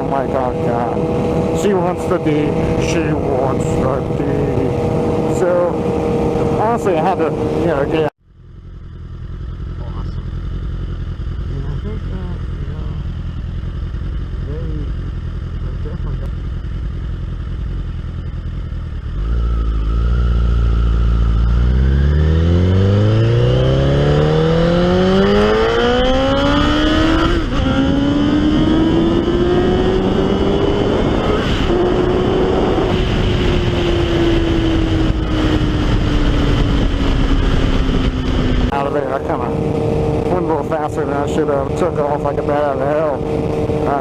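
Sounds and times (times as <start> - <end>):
motorcycle engine accelerating: 0.0 - 44.0
wind and road noise: 0.0 - 44.0.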